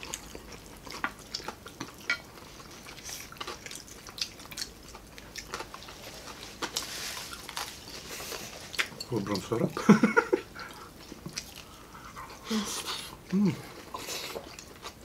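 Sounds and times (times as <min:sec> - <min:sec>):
close chewing crispy food: 0:00.0 - 0:15.0.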